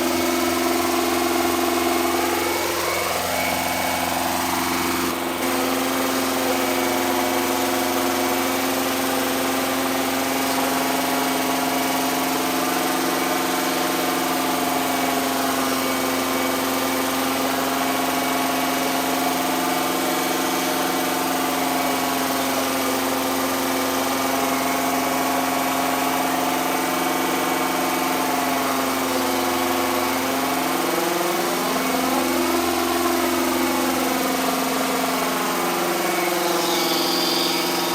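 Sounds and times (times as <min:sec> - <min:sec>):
engine running at fast idle: 0:00.0 - 0:37.9.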